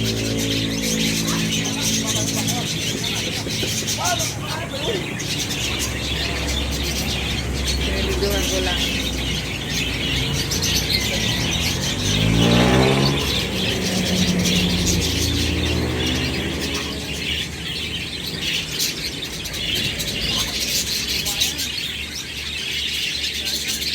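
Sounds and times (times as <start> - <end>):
engine passing: 0.0 - 23.9
lovebirds chirping: 0.0 - 23.9.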